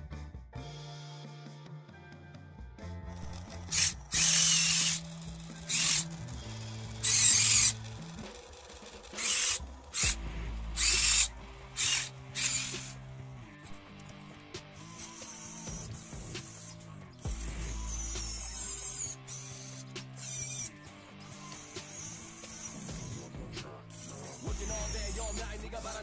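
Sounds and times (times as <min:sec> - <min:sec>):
background music: 0:00.0 - 0:26.0
small electric motors whirring: 0:03.1 - 0:26.0.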